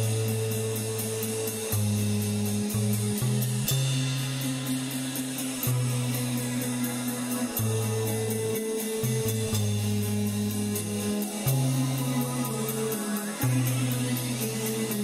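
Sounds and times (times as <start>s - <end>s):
cymbal ticking: 0.0s - 15.0s
held bass notes: 0.0s - 15.0s
instrumental rock music: 0.0s - 15.0s.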